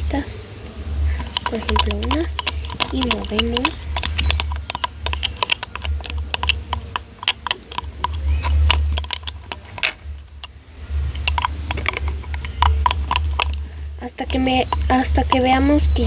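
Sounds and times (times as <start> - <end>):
low handling rumble: 0.0 - 16.0.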